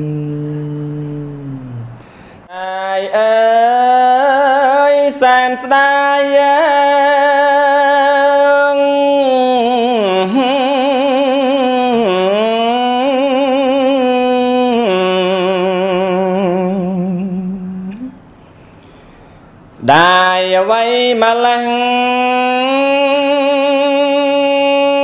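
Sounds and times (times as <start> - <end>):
man chanting: 0.0 - 18.2, 19.8 - 25.0.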